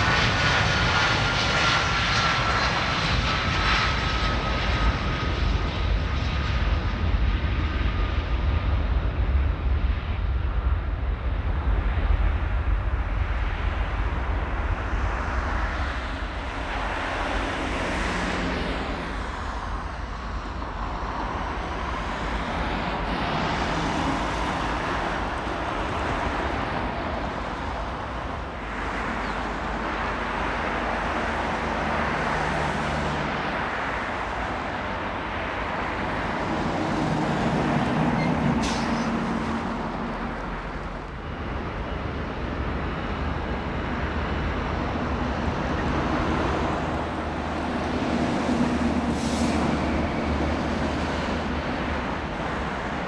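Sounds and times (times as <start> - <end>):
vehicle engine rush: 0.0 - 53.0.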